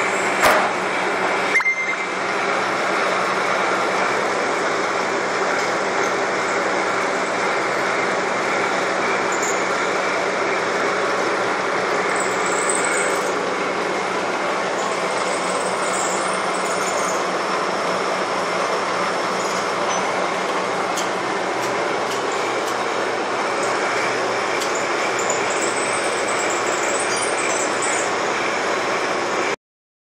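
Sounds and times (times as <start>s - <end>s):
lathe machine hum: 0.0s - 29.6s.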